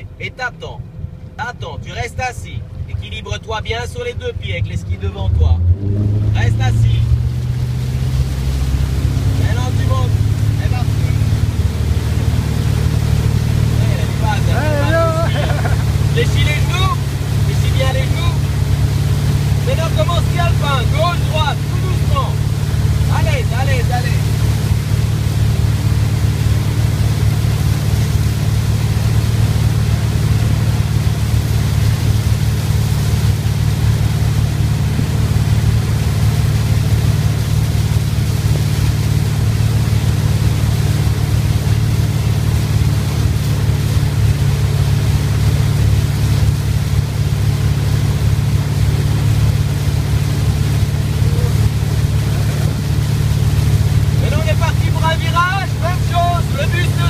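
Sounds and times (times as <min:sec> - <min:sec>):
motorboat engine drone: 0:00.0 - 0:57.0
water rushing and spray: 0:03.0 - 0:57.0.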